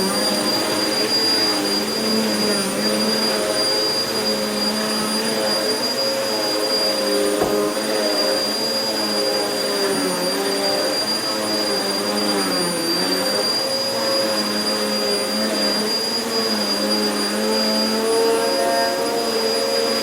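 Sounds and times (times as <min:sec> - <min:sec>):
vacuum cleaner on carpet: 0:00.0 - 0:20.0.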